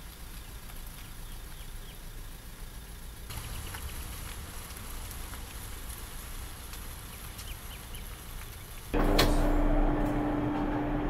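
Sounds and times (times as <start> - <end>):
small birds chirping: 0.0 - 9.0
bus engine rumbling: 0.0 - 11.0.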